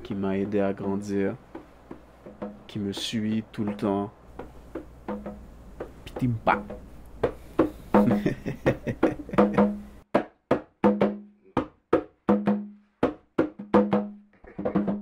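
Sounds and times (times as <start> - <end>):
drum strikes: 0.0 - 15.0.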